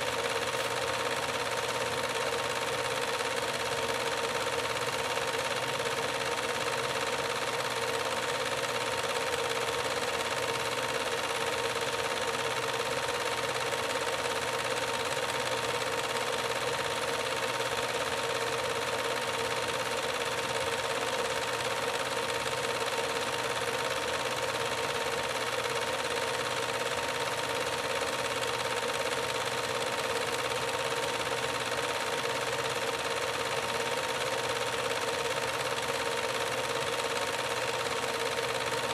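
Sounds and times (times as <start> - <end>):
film projector whirring clatter: 0.0 - 38.9.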